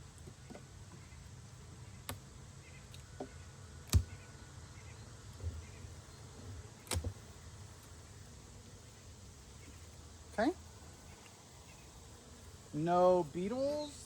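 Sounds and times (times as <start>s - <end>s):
honeybees buzzing: 0.6s - 14.0s.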